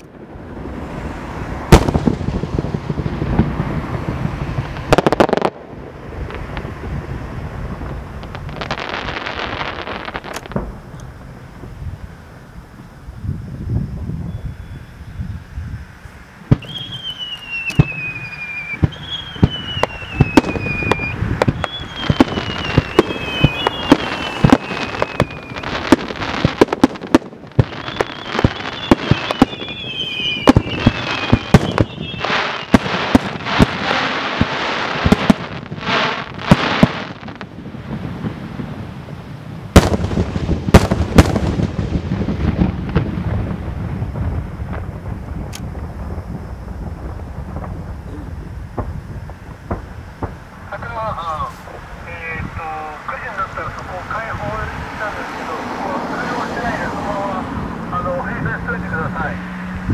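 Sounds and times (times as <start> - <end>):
fireworks bursting: 0.0 - 59.9
fireworks crackling: 0.0 - 59.9
loud fireworks booms: 0.0 - 59.9
falling fireworks whistles: 0.1 - 59.9.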